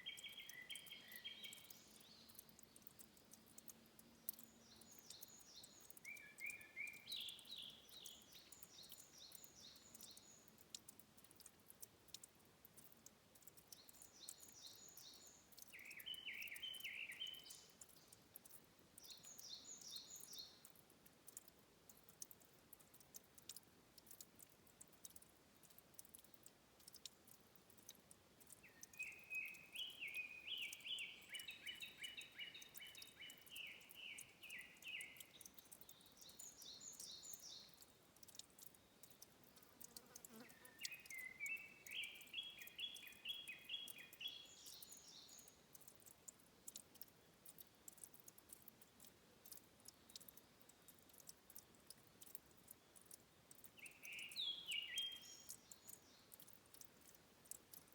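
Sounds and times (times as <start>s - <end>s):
faint high ticks: 0.0s - 57.9s
songbird singing: 0.0s - 57.9s.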